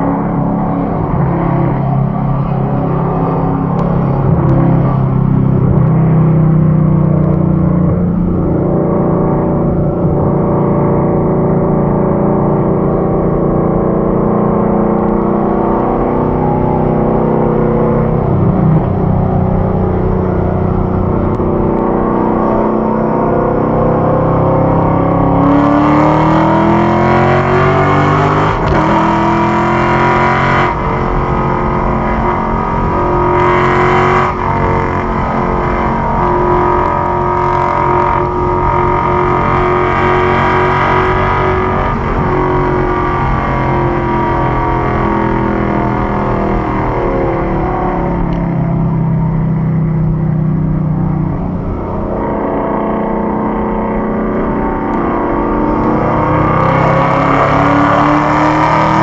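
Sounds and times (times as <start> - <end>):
car engine accelerating: 0.0 - 59.0
tyre and road noise: 0.0 - 59.0.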